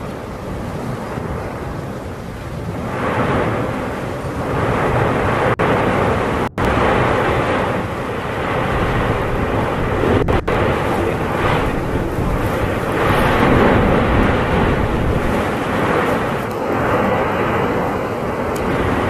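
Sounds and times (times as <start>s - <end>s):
volcano rumbling roar: 0.0s - 19.0s.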